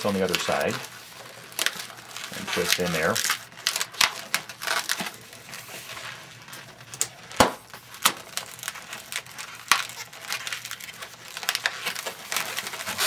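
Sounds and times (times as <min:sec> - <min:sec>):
balloons crackling when twisted: 0:00.0 - 0:13.0.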